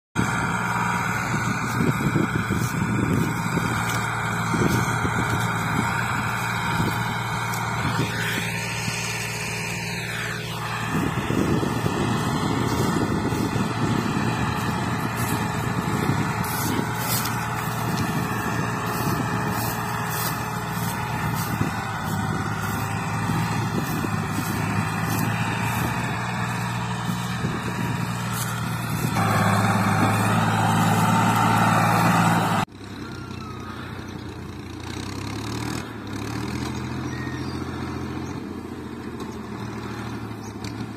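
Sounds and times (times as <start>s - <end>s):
tractor diesel engine under load: 0.2s - 40.9s.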